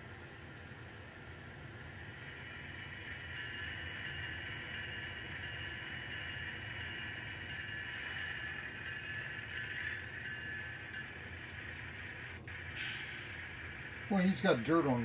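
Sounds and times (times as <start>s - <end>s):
model locomotive whine and hum: 0.0s - 15.0s.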